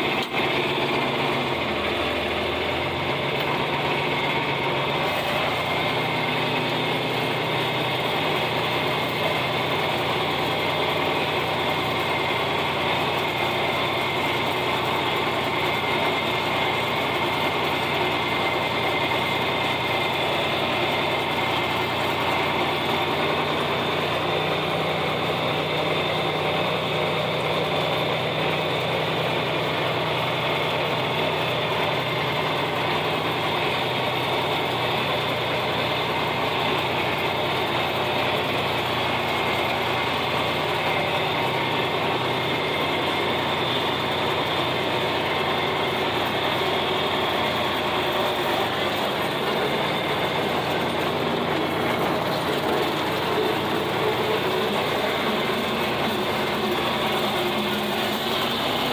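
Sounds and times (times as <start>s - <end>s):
rotary cutter drive running: 0.0s - 58.9s
tractor engine running under load: 0.0s - 58.9s.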